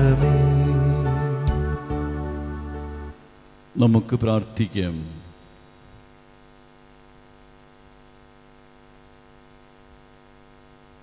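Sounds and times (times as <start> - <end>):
faint electrical mains hum: 0.0 - 11.0.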